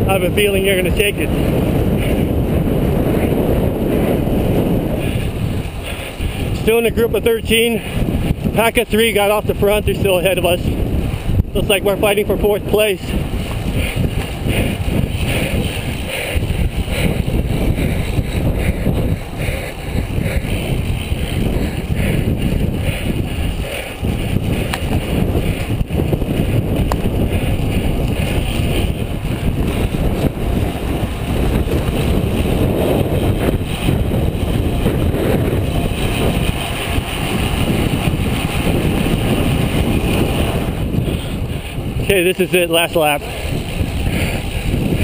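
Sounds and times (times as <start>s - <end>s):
bicycles riding noise: 0.0s - 45.0s
wind buffeting microphone: 0.0s - 45.0s.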